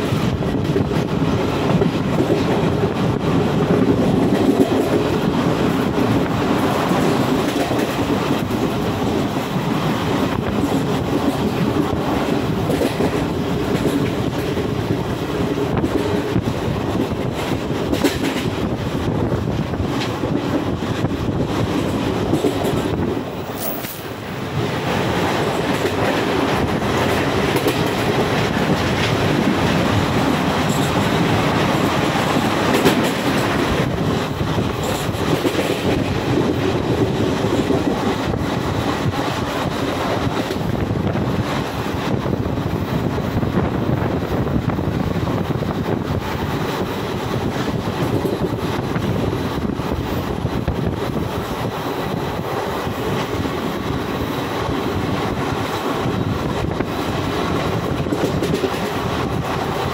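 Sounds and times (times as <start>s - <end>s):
rail joints clicking: 0.0s - 59.9s
train wheels rushing on rails: 0.0s - 59.9s.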